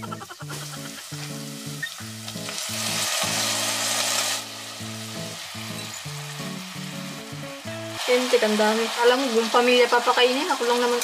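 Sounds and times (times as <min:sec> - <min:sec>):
chicken sizzling in a pot: 0:00.0 - 0:11.0.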